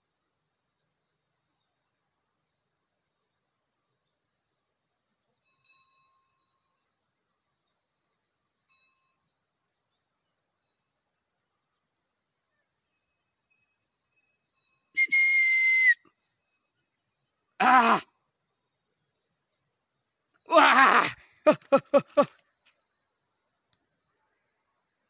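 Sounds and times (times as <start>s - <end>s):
faint insect chirps: 0.0s - 25.0s
insects chirring in grass: 0.0s - 25.0s.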